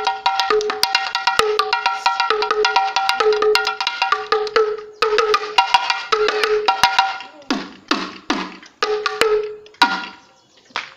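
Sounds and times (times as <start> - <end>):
small drums struck quickly: 0.0 - 10.9.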